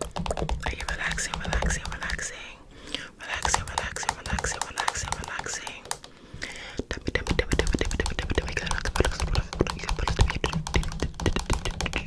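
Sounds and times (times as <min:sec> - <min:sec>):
rapid irregular clicking: 0:00.0 - 0:02.4, 0:03.3 - 0:12.0.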